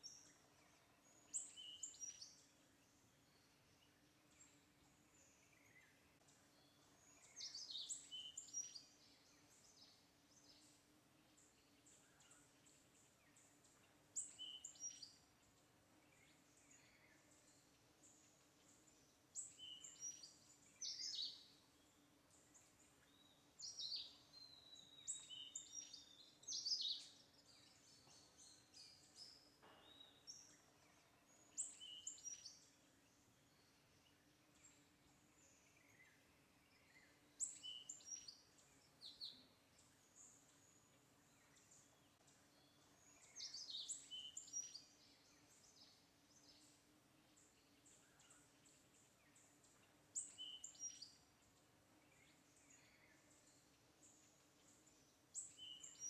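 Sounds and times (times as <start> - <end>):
birds chirping: 0.0 - 56.0
faint low hum: 0.0 - 56.0.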